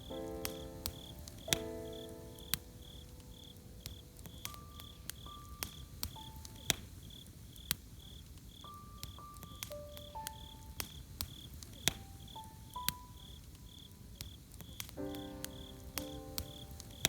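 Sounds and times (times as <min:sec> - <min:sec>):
campfire crackling: 0:00.0 - 0:17.0
crickets chirping: 0:00.0 - 0:17.0.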